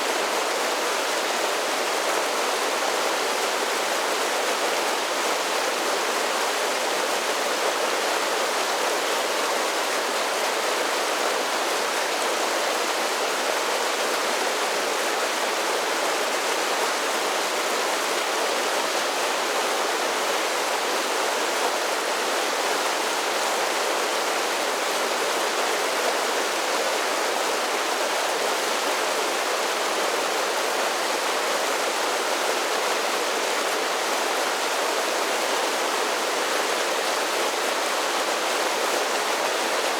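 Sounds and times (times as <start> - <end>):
creek cascading over waterfalls: 0.0 - 39.9.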